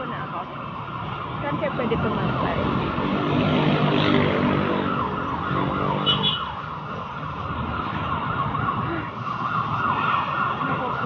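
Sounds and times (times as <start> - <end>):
emergency siren wailing: 0.0 - 11.0
street traffic: 0.0 - 11.0.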